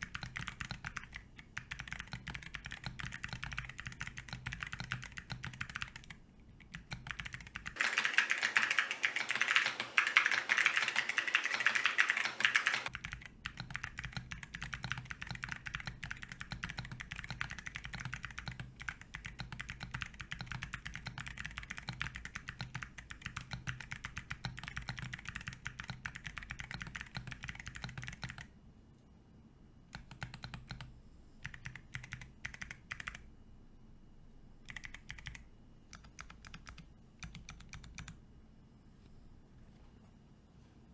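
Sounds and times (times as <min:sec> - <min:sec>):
fast typing on clicky keyboard: 0:00.0 - 0:28.5, 0:29.9 - 0:33.3, 0:34.6 - 0:38.2.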